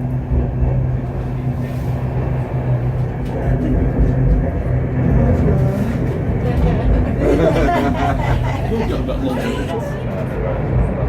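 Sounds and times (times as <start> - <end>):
funicular car humming and rumbling: 0.0 - 11.0.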